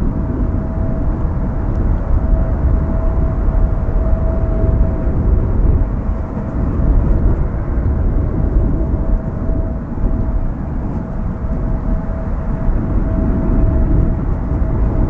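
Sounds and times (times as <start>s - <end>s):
jet engines rumbling and whining: 0.0s - 15.0s
wind buffeting microphone: 0.0s - 15.0s.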